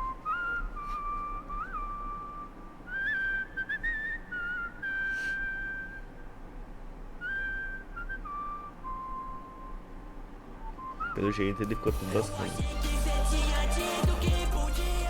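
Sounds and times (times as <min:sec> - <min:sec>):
whistle-like melody: 0:00.0 - 0:06.3, 0:07.2 - 0:10.0, 0:10.6 - 0:15.0.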